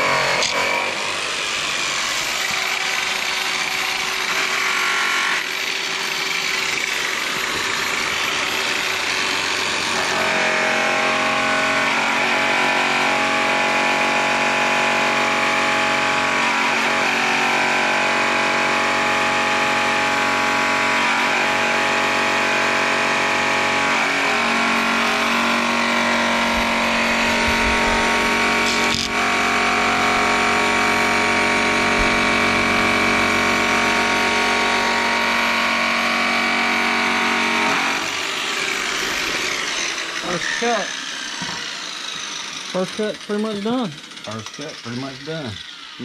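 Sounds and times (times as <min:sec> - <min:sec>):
polisher buffing metal: 0:00.0 - 0:46.0.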